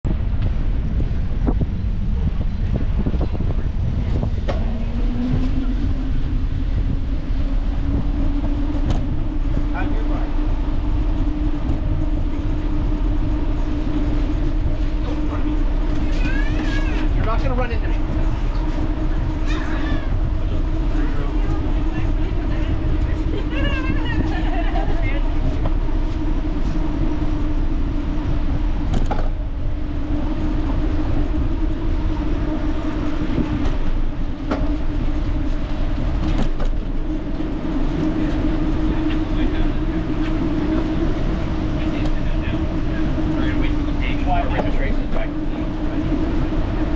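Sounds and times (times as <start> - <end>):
low hum: 0.0 - 46.9
wind rumble on microphone: 0.0 - 46.9
bicycle tyres rolling: 0.1 - 46.9.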